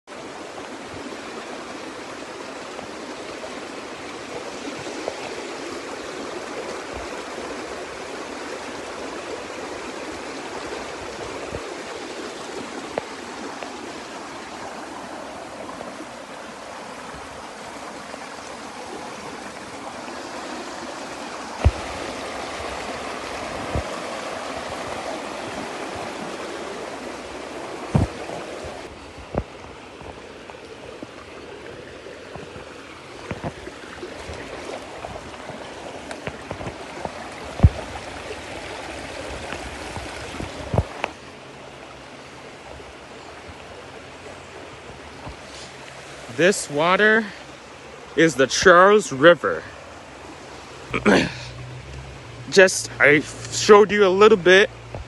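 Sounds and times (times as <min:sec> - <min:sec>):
flowing river water: 0:00.0 - 0:55.0.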